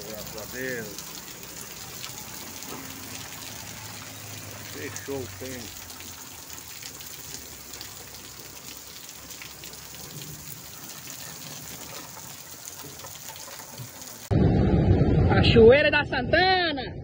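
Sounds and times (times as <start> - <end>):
raindrop taps: 0.0 - 14.3
steady rain falling: 0.0 - 14.3.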